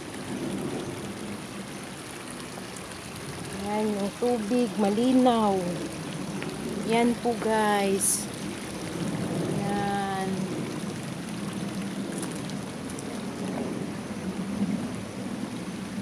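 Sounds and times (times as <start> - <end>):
stream running over rocks: 0.0 - 16.0.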